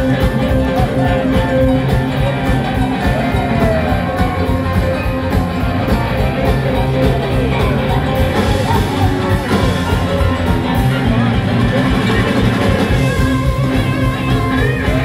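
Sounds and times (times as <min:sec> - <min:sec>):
live blues rock band playing: 0:00.0 - 0:15.0.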